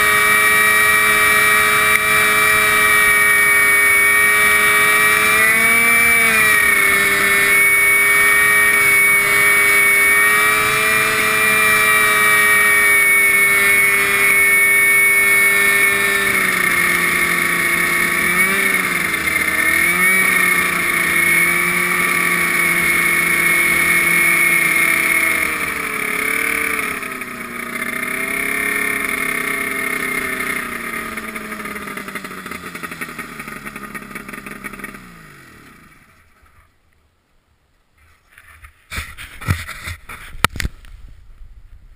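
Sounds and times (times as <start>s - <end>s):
small engine running: 0.0s - 36.7s.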